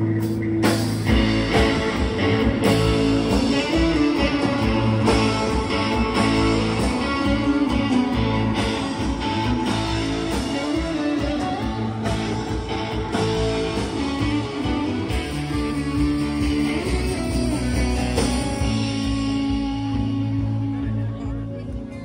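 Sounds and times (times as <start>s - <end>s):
drum kit: 0.0s - 21.0s
electric guitars: 0.0s - 22.0s.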